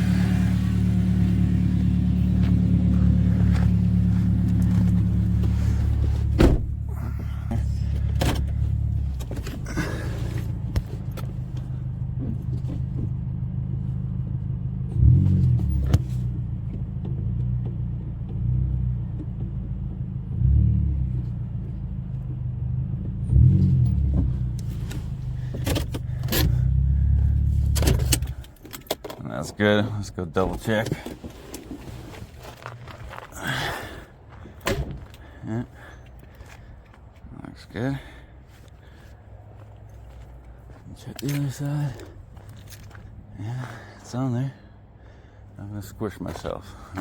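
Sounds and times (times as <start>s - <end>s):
car engine running at low speed: 0.0s - 47.0s.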